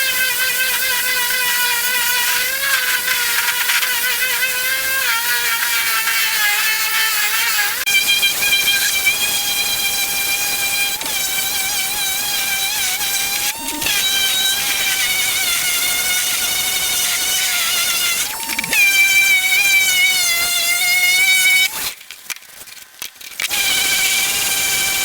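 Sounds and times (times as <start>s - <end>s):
electric power tool whining: 0.0s - 22.1s, 23.4s - 25.0s.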